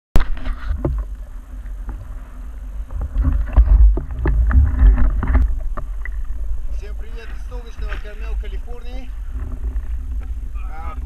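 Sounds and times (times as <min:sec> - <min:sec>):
heavy low rumble: 0:00.2 - 0:11.0
water sloshing and splashing: 0:00.2 - 0:11.0.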